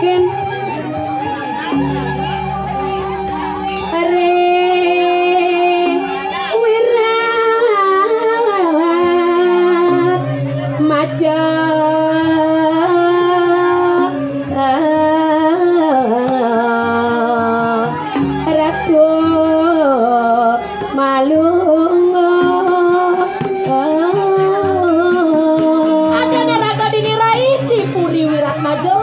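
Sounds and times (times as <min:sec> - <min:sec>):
held instrumental accompaniment: 0:00.0 - 0:29.0.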